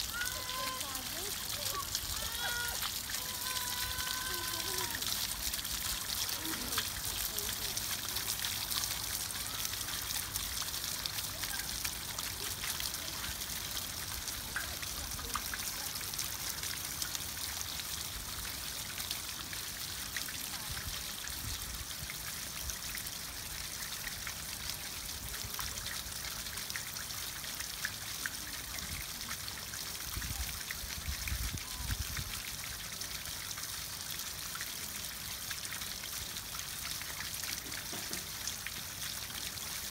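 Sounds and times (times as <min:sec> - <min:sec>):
fountain water splashing: 0:00.0 - 0:39.9
water dripping on pebbles: 0:00.0 - 0:39.9.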